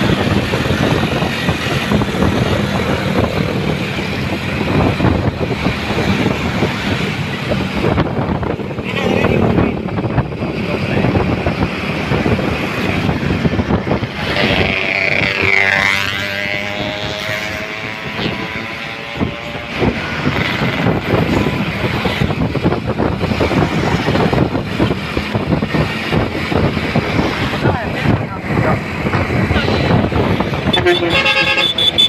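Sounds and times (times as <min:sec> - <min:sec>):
heavy road traffic: 0:00.0 - 0:32.0.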